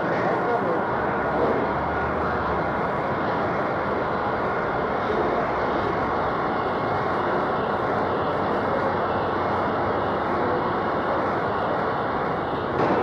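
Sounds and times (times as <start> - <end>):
carding machines running: 0.0 - 13.0.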